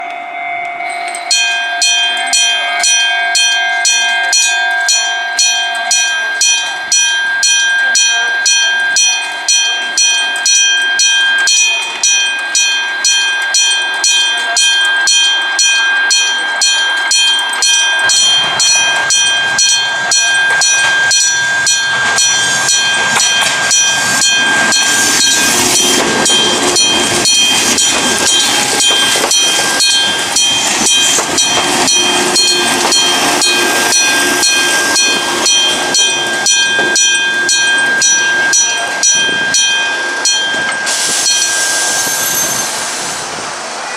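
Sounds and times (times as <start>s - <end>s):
level-crossing alarm ringing: 0.0s - 43.2s
train passing: 0.0s - 43.9s.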